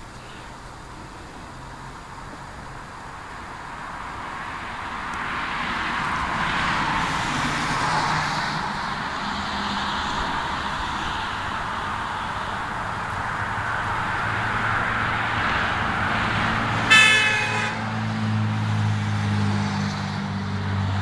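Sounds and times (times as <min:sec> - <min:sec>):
car passing: 0:00.0 - 0:21.0.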